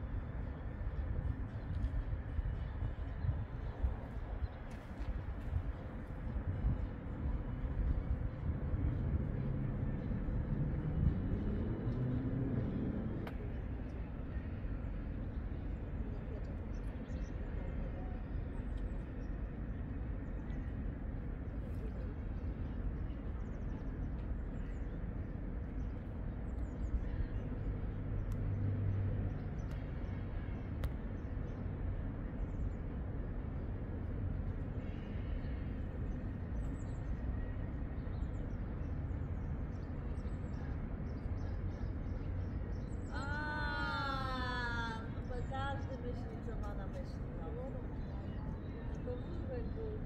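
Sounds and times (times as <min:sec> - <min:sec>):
low city rumble: 0:00.0 - 0:50.0.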